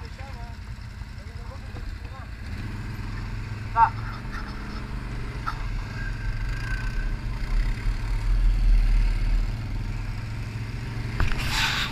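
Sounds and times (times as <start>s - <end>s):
atv engine running: 0.0s - 11.9s.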